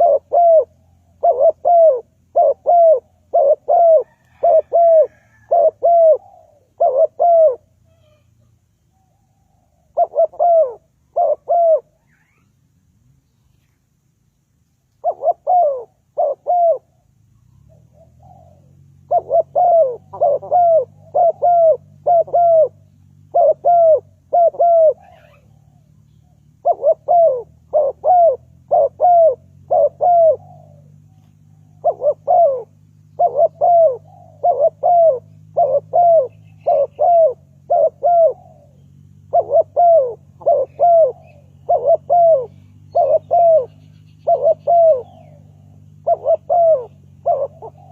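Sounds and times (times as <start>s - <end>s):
dove cooing: 0.0s - 8.4s, 9.0s - 12.5s, 15.0s - 47.9s
faint low steady hum: 0.0s - 47.9s.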